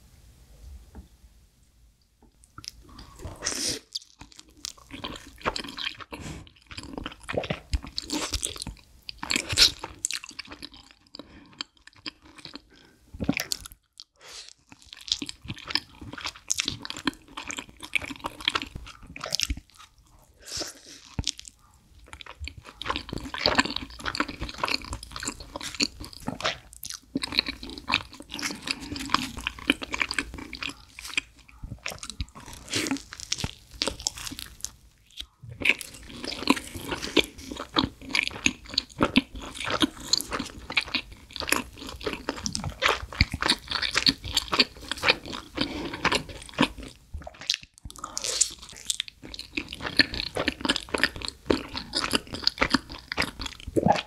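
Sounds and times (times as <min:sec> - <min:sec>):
wet chewing: 0:02.5 - 0:54.0.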